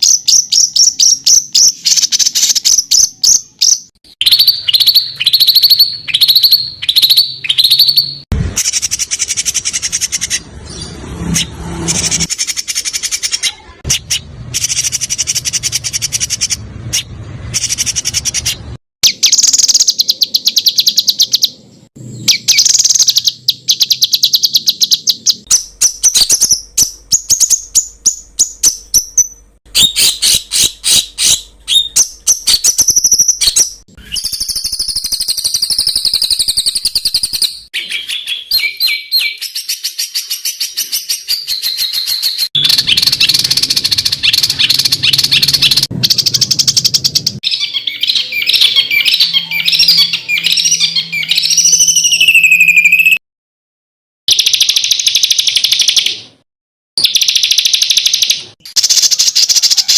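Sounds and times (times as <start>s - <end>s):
songbird singing trills: 0.0s - 53.2s.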